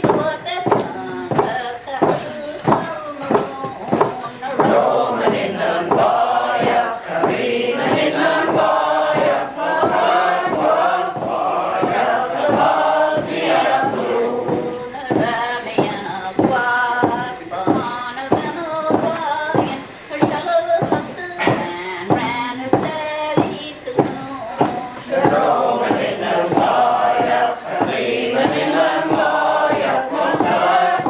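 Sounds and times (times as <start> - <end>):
group singing together: 0.0 - 31.0.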